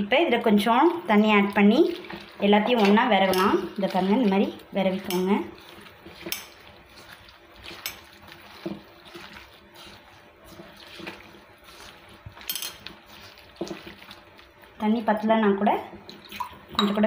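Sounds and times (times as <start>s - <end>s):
hand squelching wet mixture: 0.0s - 17.0s.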